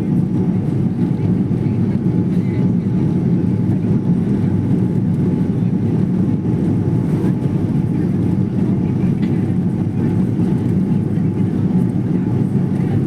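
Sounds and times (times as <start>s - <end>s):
aeroplane engines and airflow: 0.0s - 13.0s.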